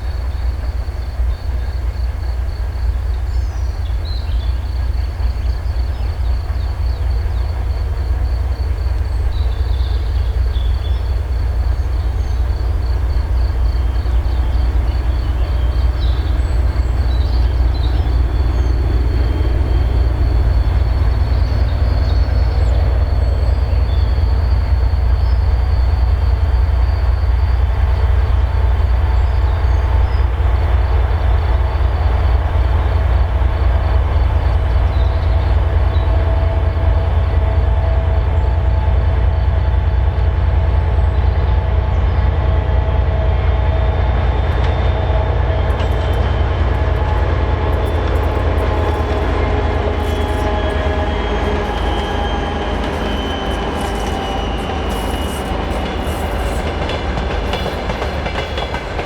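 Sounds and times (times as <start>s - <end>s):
diesel locomotive rumbling: 0.0s - 59.0s.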